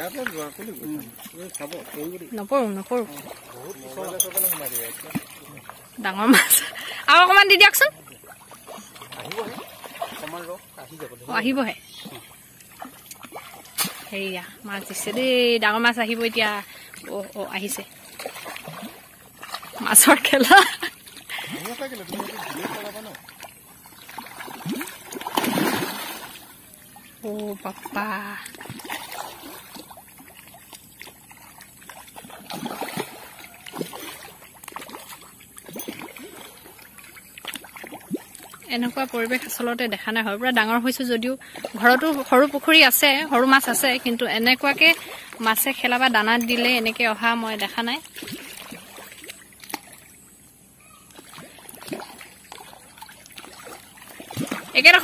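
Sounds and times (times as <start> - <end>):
fish splashing at water surface: 3.0 - 7.1, 7.9 - 11.1, 11.8 - 39.6, 44.0 - 55.0.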